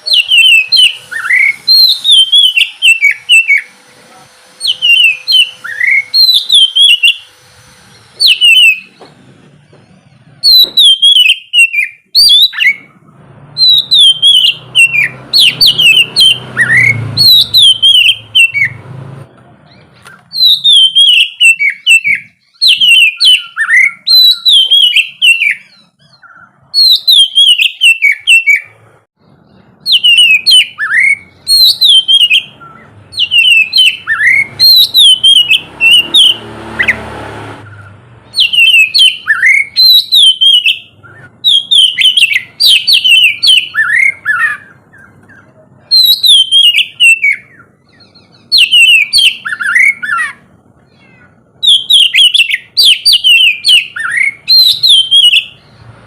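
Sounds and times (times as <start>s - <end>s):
bird singing whistled notes: 0.0s - 3.8s, 4.5s - 9.1s, 9.8s - 12.9s, 13.5s - 18.8s, 19.6s - 55.9s.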